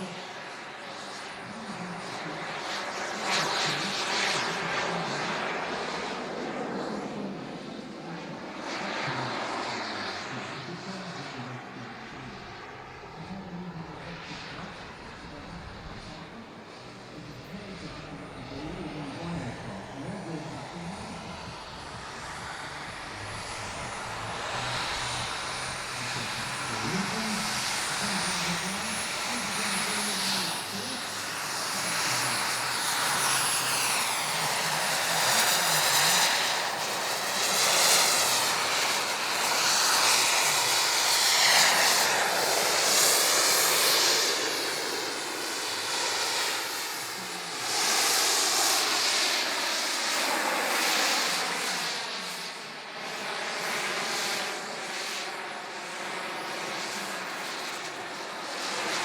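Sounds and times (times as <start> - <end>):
jet turbine high-pitched whine: 0.0 - 59.0.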